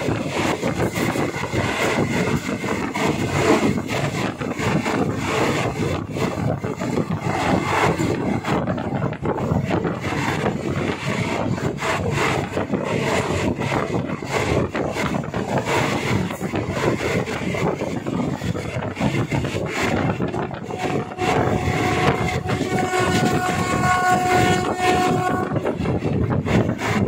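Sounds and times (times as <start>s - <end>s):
train running noise: 0.0s - 27.0s
train wheels clacking over rails: 0.0s - 27.0s.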